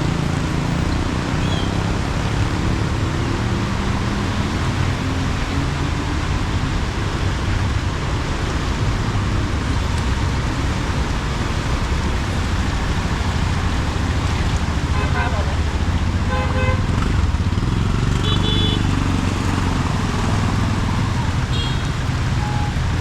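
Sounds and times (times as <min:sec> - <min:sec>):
heavy rain: 0:00.0 - 0:23.0
road traffic: 0:00.0 - 0:23.0.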